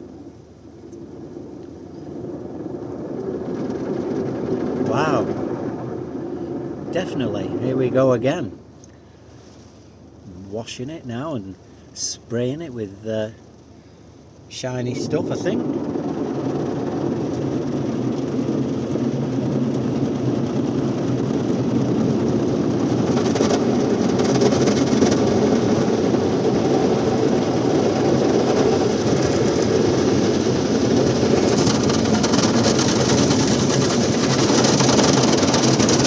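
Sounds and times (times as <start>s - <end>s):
car wash machinery rumbling: 0.0s - 36.0s.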